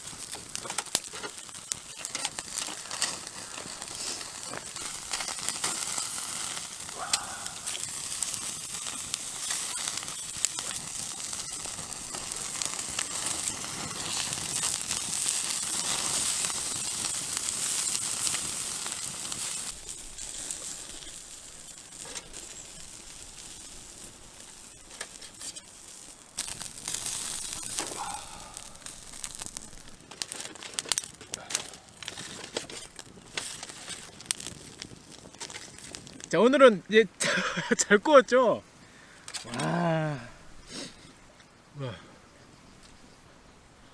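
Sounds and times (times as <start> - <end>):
fish sizzling on a grill: 0.0 - 41.1
wood fire crackling: 0.0 - 42.0.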